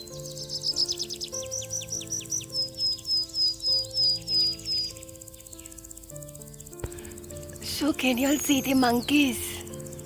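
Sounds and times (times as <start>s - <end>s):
background music with sustained notes: 0.0s - 10.0s
bird chirping: 0.0s - 10.0s.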